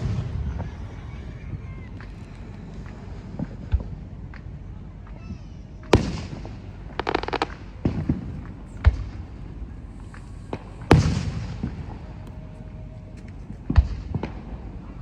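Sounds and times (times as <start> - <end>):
fireworks bangs with echo: 0.0 - 12.5
crackling firework pops: 0.0 - 14.6.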